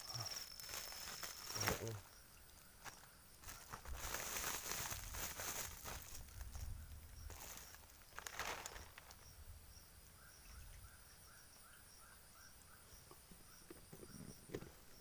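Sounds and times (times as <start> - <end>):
high insect whine: 0.0 - 15.0
rustle: 0.0 - 15.0.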